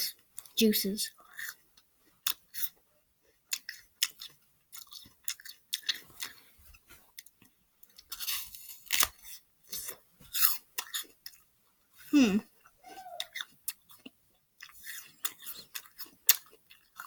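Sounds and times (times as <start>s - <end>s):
person chewing crisp apple: 0.1s - 17.0s.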